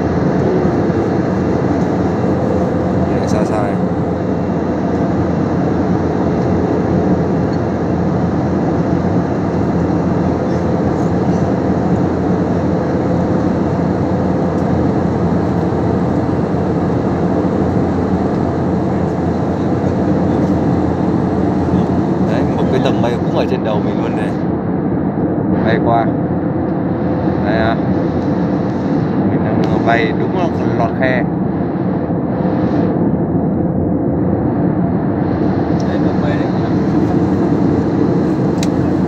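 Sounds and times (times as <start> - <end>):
airliner cabin drone: 0.0 - 39.0.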